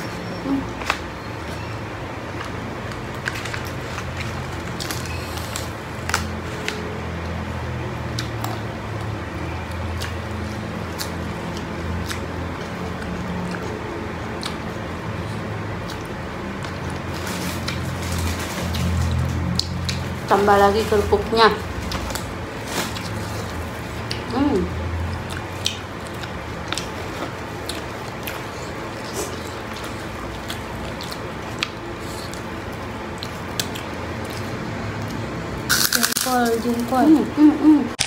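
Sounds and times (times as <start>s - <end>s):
people chewing food: 0.0s - 38.0s.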